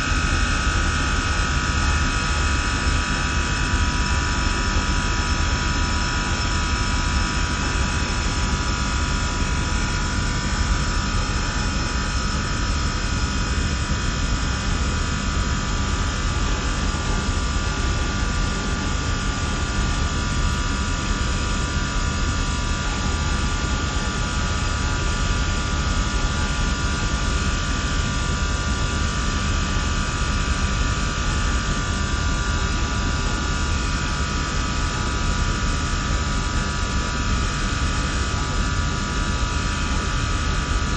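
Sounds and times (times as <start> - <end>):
high machinery whine: 0.0 - 40.9.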